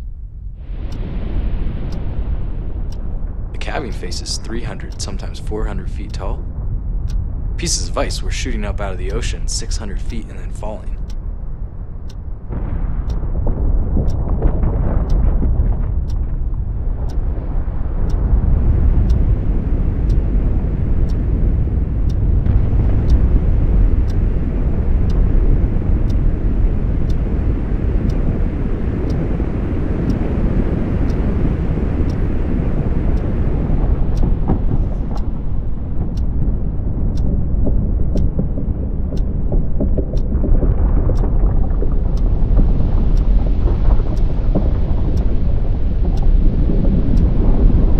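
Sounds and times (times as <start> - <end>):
faint high ticking: 0.0 - 47.9
glacier ice collapsing rumble: 0.6 - 47.9.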